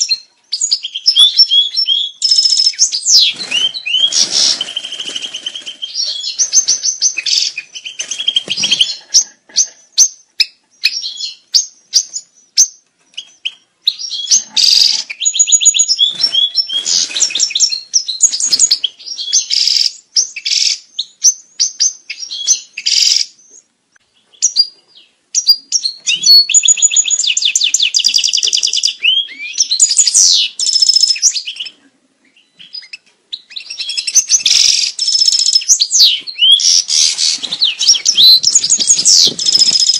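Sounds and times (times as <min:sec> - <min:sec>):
goldfinch singing: 0:00.0 - 0:23.6, 0:24.3 - 0:31.8, 0:32.4 - 0:39.9.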